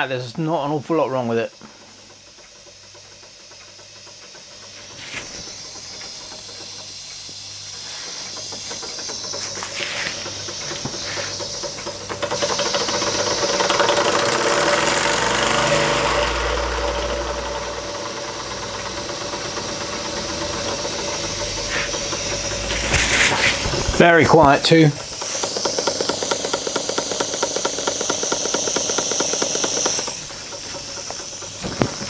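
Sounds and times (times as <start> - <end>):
steam engine chuffing: 0.0 - 32.0
steam hiss: 1.4 - 32.0.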